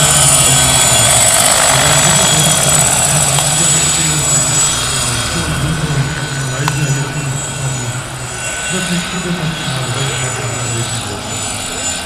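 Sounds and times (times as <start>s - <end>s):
helicopter rotor noise: 0.0s - 12.0s
high turbine whine: 0.0s - 12.0s.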